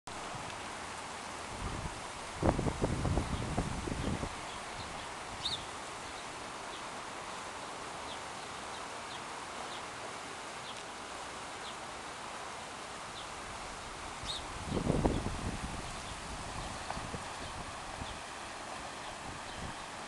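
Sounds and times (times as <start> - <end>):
fast river rushing: 0.1 - 20.0.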